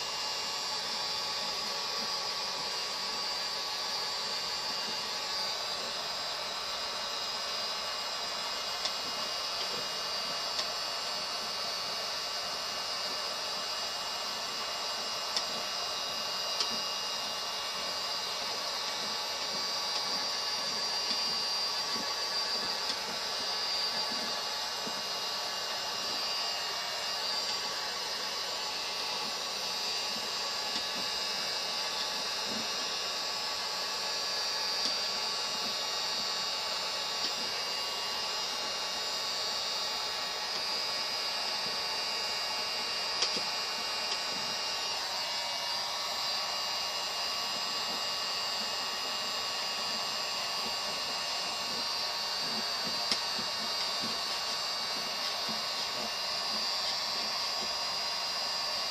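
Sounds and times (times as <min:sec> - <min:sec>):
small blower whirring: 0:00.0 - 0:58.9.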